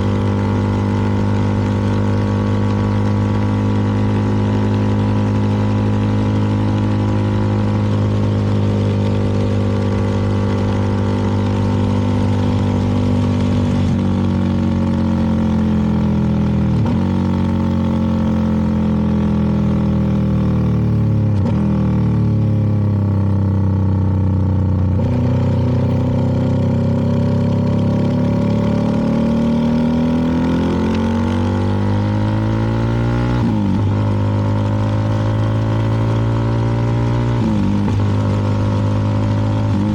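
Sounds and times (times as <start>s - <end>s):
motorcycle engine running: 0.0s - 39.9s
road noise: 0.0s - 39.9s
wind: 0.0s - 39.9s.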